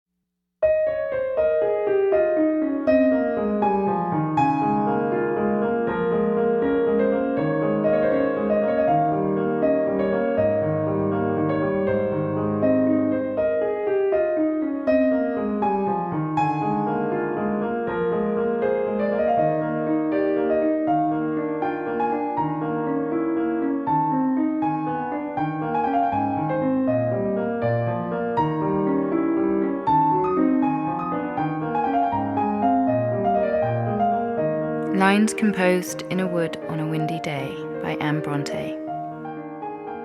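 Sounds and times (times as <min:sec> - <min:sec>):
solo piano music: 0:00.6 - 0:40.0.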